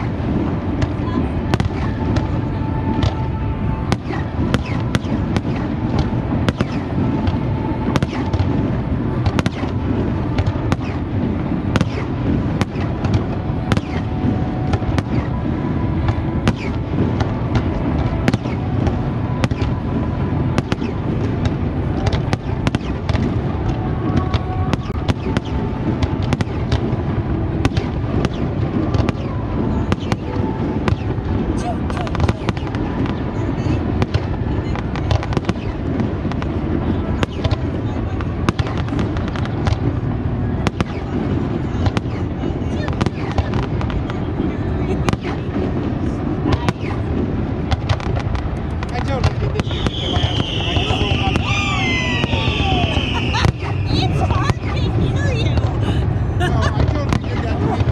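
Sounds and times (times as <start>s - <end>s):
fireworks bursting: 0.0s - 57.9s
fireworks cracks and bangs: 0.0s - 57.9s.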